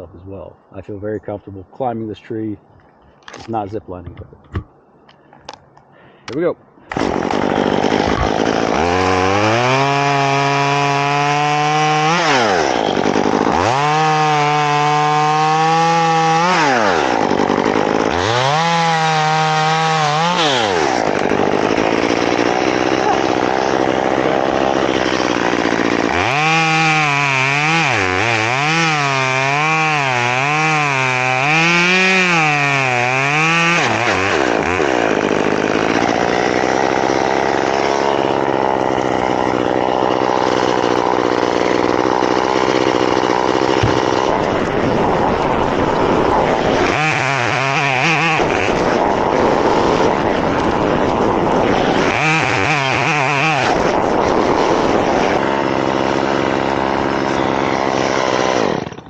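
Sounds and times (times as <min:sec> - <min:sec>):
chainsaw cutting wood: 0:06.8 - 0:59.0.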